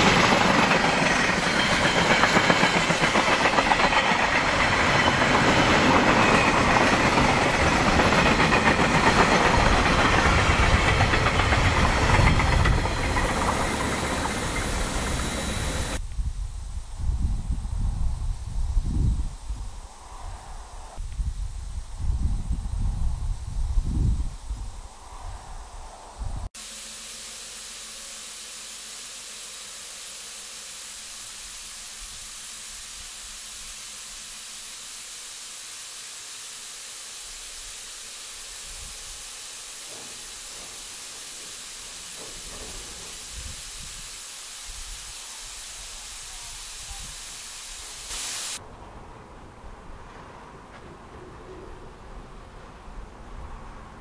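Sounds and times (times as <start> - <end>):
steady hiss: 0.0 - 48.7.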